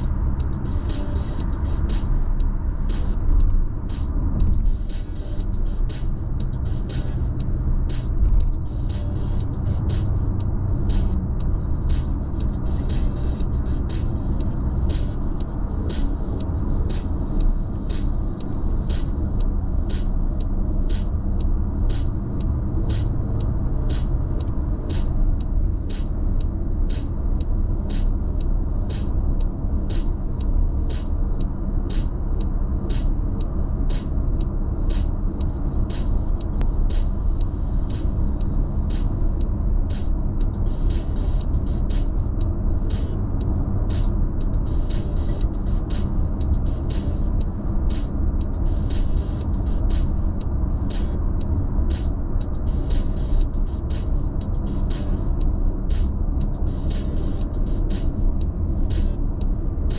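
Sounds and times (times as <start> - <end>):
road and tyre noise in car: 0.0 - 59.9.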